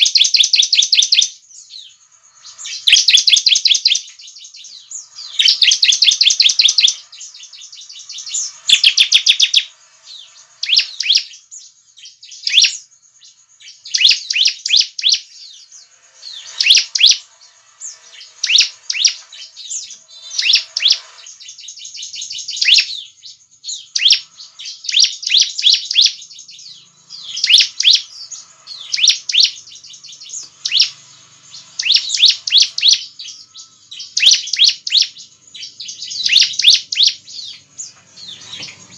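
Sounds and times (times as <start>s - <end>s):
bird high-pitched chirping song: 0.0s - 38.9s.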